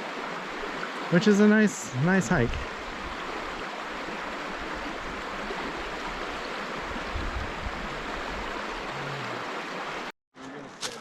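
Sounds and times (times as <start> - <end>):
river water rushing: 0.0 - 10.1.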